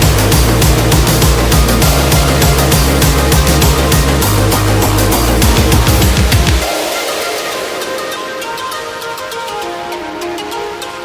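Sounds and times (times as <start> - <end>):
fast beat music with heavy bass: 0.0 - 11.0.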